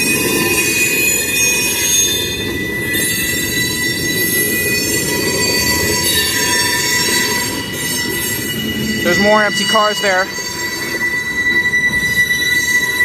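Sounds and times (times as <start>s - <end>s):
train cars rumbling: 0.0s - 13.0s
wheels squealing on rails: 0.0s - 13.0s.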